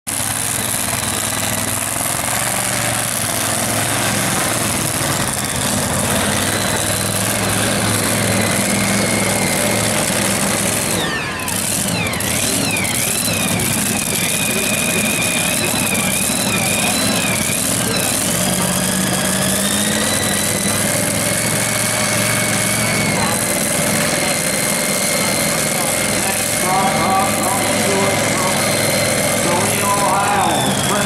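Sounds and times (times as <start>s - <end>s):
truck engine running at low speed: 0.1s - 31.0s.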